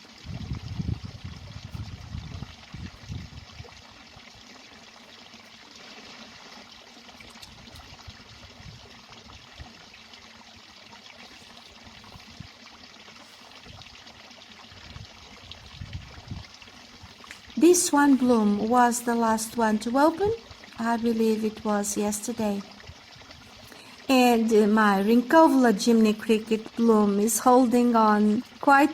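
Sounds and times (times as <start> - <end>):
running trickling water: 0.0 - 28.9.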